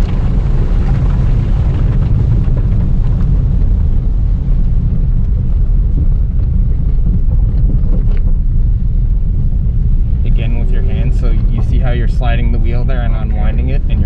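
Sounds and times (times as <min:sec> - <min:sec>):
gravel ticks: 0:00.0 - 0:14.0
rally car engine rumble: 0:00.0 - 0:14.0.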